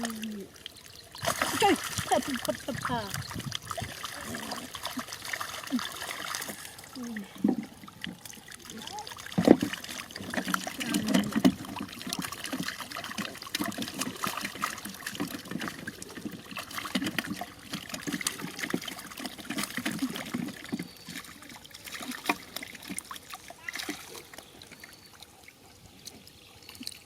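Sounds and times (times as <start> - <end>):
muddy water sloshing: 0.0 - 27.0
small water splashes: 0.0 - 27.0.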